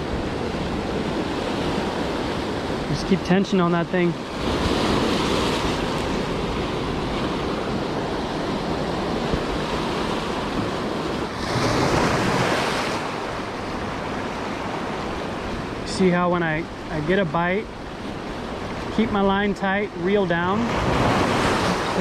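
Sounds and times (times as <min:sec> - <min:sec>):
wind buffeting microphone: 0:00.0 - 0:19.2
ocean surf against rocks: 0:00.0 - 0:22.0.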